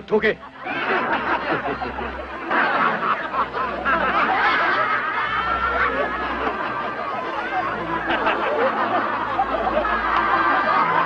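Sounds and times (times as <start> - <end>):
crowd laughing: 0.2 - 11.0.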